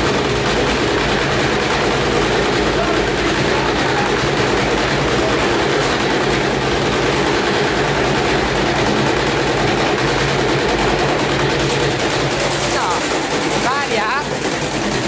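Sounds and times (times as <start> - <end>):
washing machine drum banging: 0.0 - 15.0.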